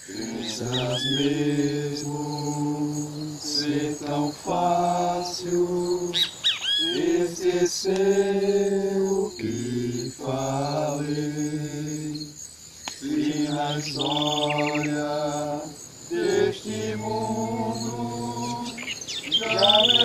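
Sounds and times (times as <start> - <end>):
men singing together: 0.0 - 12.4, 13.0 - 20.0
bird chirping: 0.0 - 20.0.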